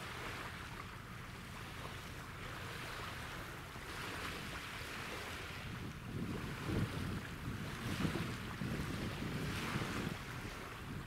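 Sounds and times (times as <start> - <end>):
small waves washing: 0.0 - 11.0
steady wind: 0.0 - 11.0.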